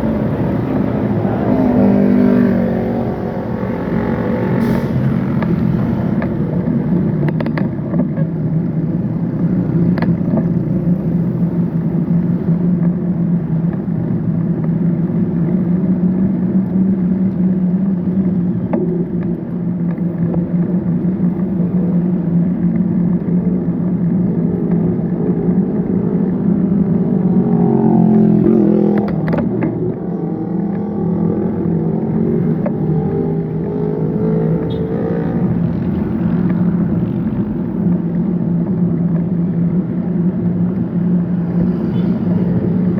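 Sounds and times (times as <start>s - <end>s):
vehicle engine hum: 0.0s - 42.9s.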